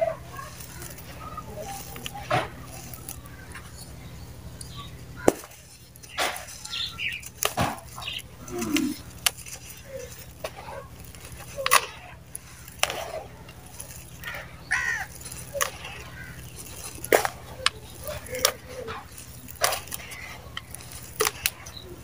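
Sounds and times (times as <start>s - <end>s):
clumps crunching: 0.0s - 22.0s
hands scooping dry mud powder: 0.0s - 22.0s
steady low hum: 0.0s - 22.0s.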